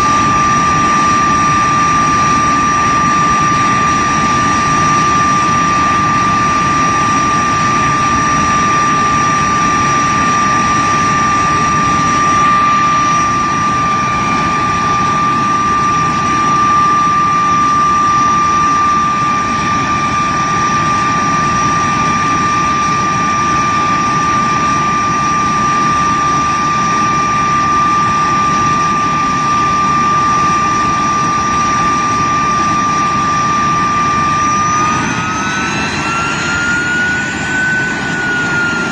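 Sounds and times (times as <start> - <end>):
jet engine high whine: 0.0 - 38.9
jet engine rushing rumble: 0.0 - 38.9.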